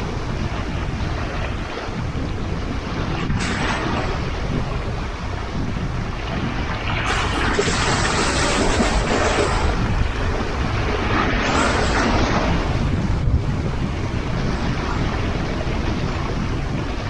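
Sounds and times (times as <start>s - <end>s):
sea waves washing onto shore: 0.0s - 17.0s
wind rumble on microphone: 0.0s - 17.0s.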